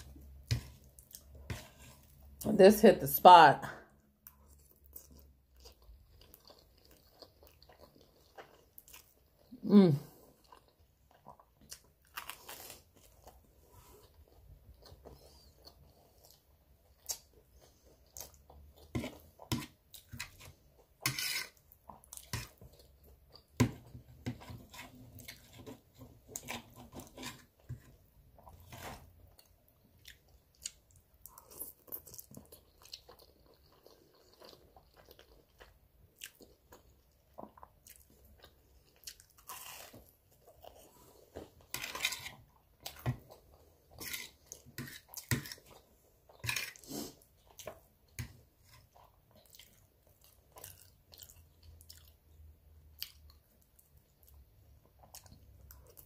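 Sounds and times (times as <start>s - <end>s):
person chewing food: 0.0s - 2.4s, 4.0s - 56.0s.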